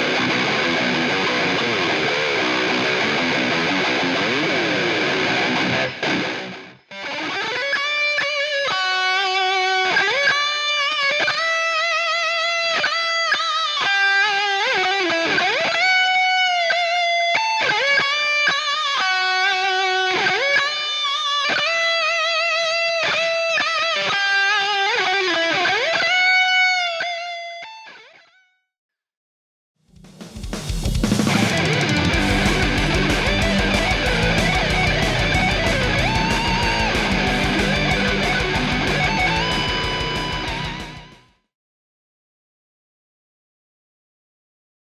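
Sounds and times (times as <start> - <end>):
electric guitar lead melody: 0.0 - 28.1, 31.2 - 41.2.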